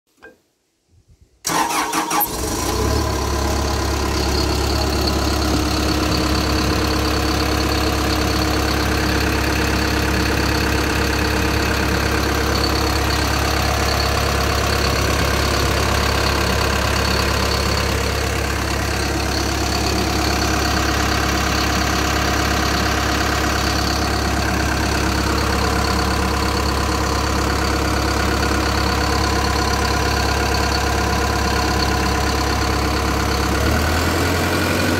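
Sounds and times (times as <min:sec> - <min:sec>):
diesel engine starting and idling: 0:01.4 - 0:34.9.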